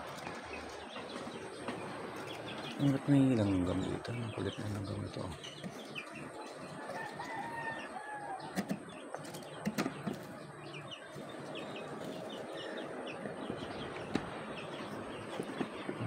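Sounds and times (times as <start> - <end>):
birds chirping: 0.0 - 16.0
long falling bird call: 0.0 - 16.0.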